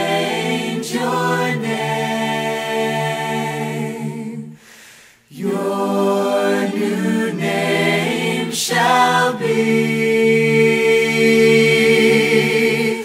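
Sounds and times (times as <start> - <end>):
slow worship song: 0.0 - 13.0.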